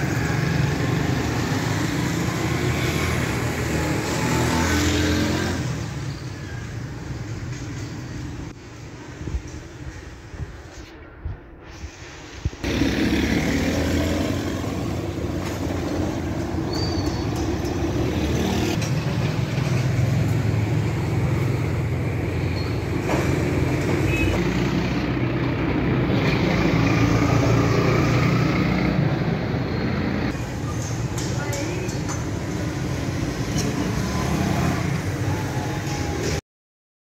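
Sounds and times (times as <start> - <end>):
traffic noise: 0.0 - 36.4.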